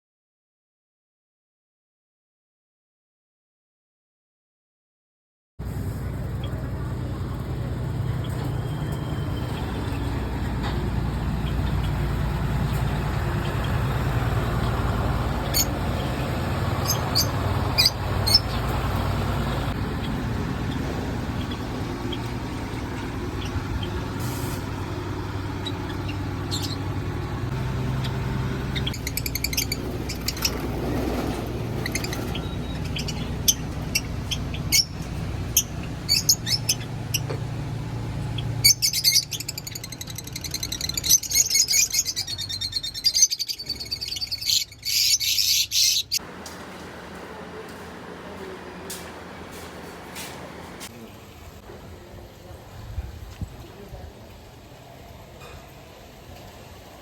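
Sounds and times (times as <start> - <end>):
low vehicle engine rumble: 5.6 - 57.0
birds chirping: 6.2 - 52.5.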